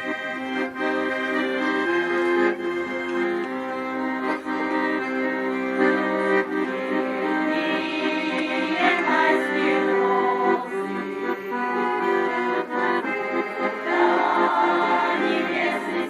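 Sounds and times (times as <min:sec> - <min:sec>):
accordion music: 0:00.0 - 0:16.0.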